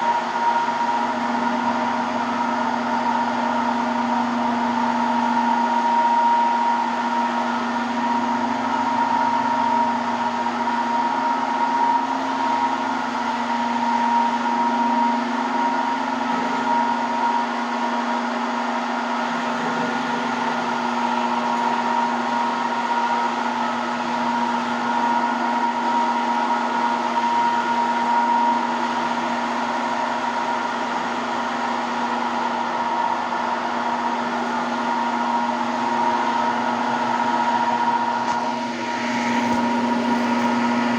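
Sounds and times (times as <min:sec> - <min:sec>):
polishing machine running: 0:00.0 - 0:40.9.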